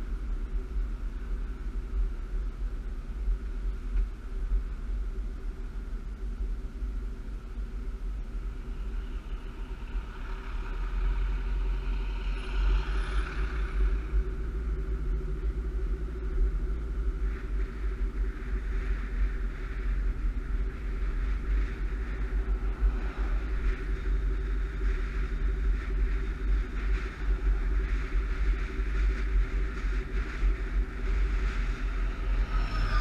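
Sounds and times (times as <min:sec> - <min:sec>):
constant hum: 0:00.0 - 0:33.0
wind and road noise: 0:00.0 - 0:33.0.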